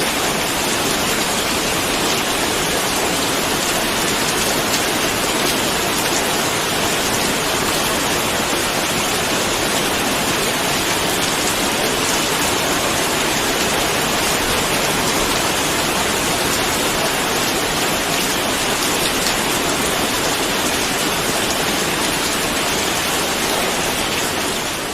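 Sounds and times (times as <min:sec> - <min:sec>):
heavy rain falling: 0:00.0 - 0:24.9.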